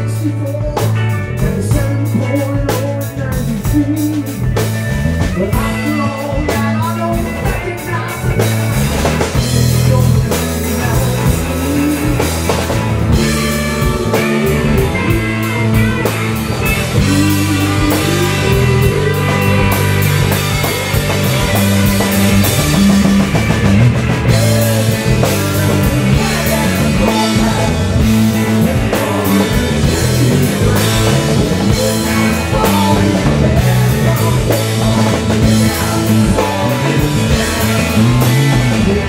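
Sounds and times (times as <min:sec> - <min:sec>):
bass guitar: 0:00.0 - 0:39.0
drum kit steady beat: 0:00.0 - 0:39.0
electric guitars: 0:00.0 - 0:39.0.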